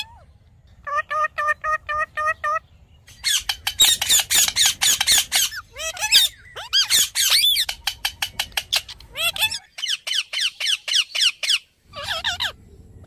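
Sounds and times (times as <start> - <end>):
parakeet screeching: 0.8 - 12.6.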